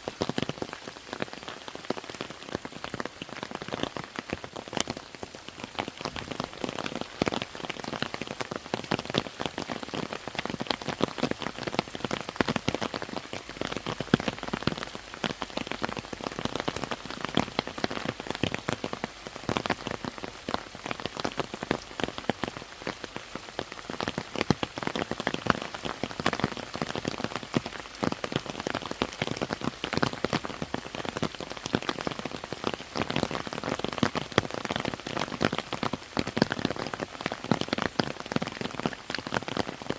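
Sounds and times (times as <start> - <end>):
raindrops striking close by: 0.0 - 39.9
steady rain: 0.0 - 39.9.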